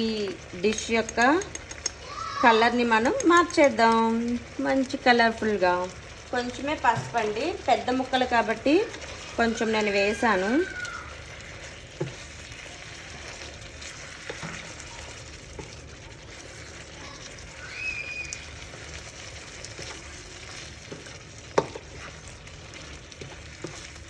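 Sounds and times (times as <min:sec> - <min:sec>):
chicken sizzling in a frying pan: 0:00.0 - 0:24.0.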